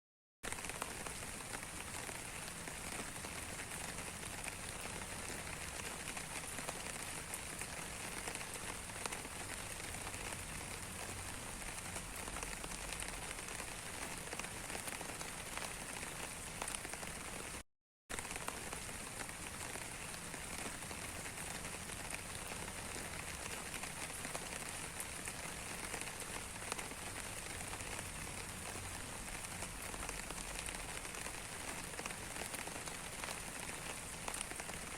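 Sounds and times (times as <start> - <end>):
rain falling on a surface: 0.4 - 34.9.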